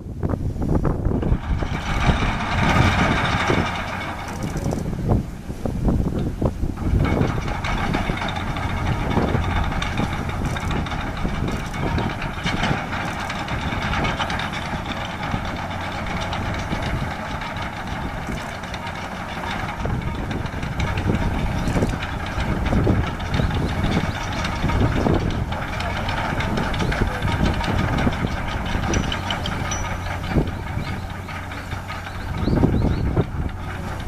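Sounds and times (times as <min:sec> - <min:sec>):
ship diesel engine drone: 0:00.0 - 0:34.0.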